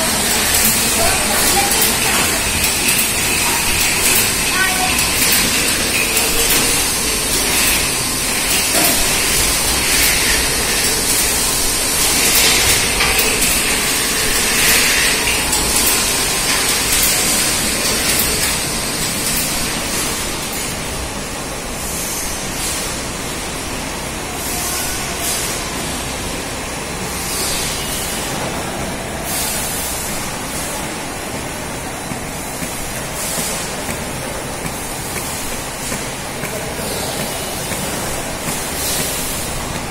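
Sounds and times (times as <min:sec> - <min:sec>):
bottling machinery running: 0:00.0 - 0:39.9.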